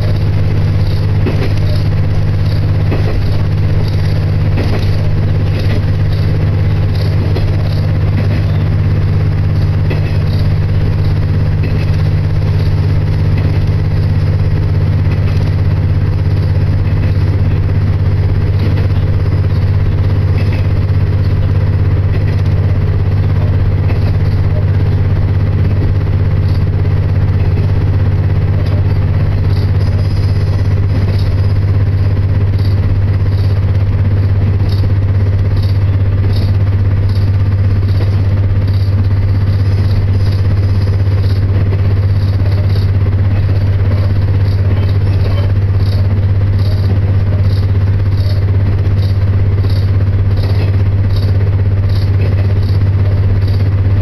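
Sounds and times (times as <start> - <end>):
faint ticks and rattles: 0.0 - 54.0
low engine drone: 0.0 - 54.0.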